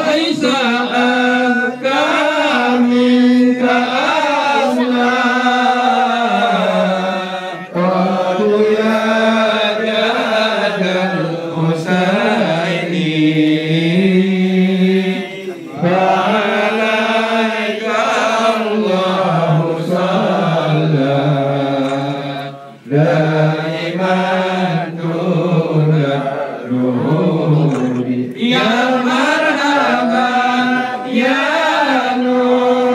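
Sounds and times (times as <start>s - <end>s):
man chanting in a low voice: 0.0s - 32.9s.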